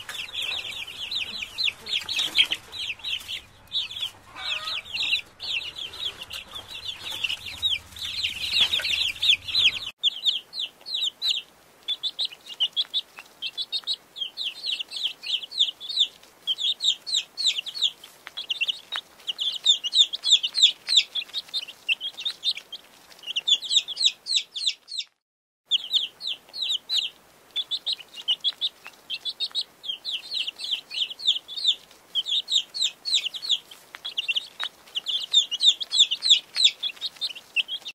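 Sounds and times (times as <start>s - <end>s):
chicks peeping: 0.0s - 37.9s.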